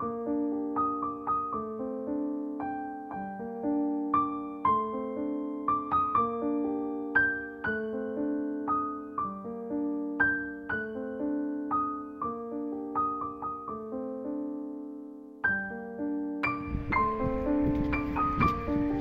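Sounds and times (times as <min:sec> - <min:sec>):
slow gentle piano melody: 0:00.0 - 0:19.0.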